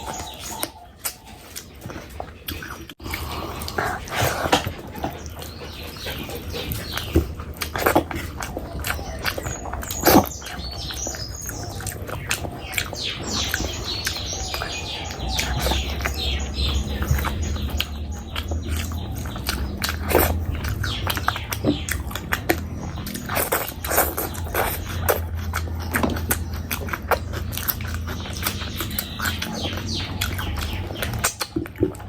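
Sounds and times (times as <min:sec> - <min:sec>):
person chewing with wet mouth sounds: 0:00.0 - 0:32.0.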